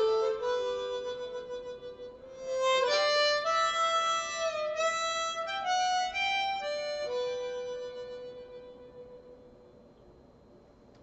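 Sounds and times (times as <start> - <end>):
blues harmonica playing: 0.0 - 9.4.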